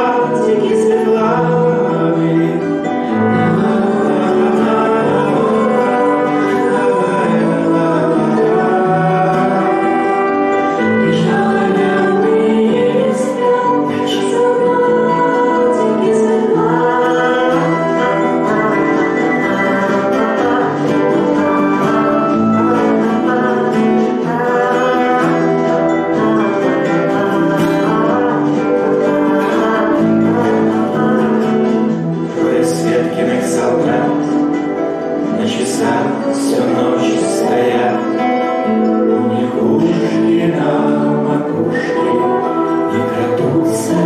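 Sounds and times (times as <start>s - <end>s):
man singing: 0.0s - 44.0s
nylon-string guitar playing: 0.0s - 44.0s.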